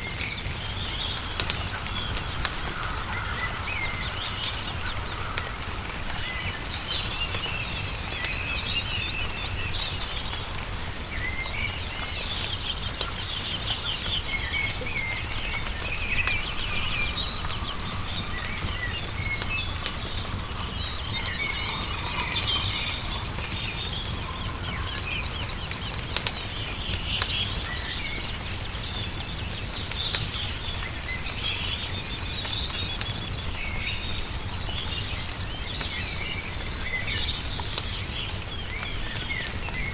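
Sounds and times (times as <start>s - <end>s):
songbirds chirping and trilling: 0.0s - 39.9s
wood fire crackling and popping: 0.0s - 39.9s.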